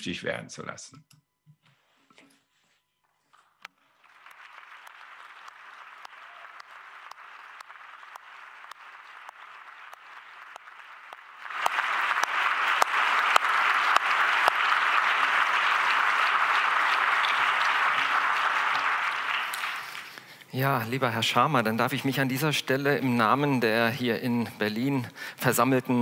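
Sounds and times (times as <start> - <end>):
audience clapping: 3.3 - 24.9.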